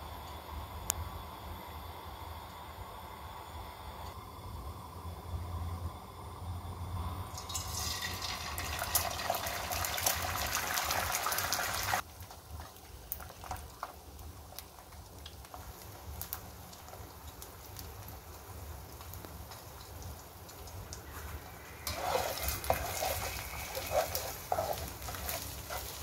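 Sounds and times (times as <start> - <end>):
eggs sizzling in hot oil: 4.1 - 26.0.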